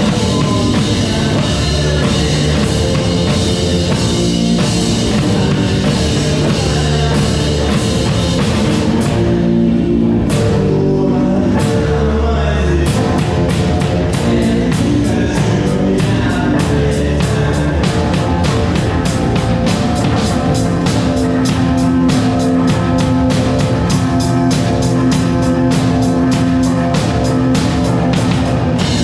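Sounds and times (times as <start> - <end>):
person singing: 0.0 - 29.0
rock band playing: 0.0 - 29.0.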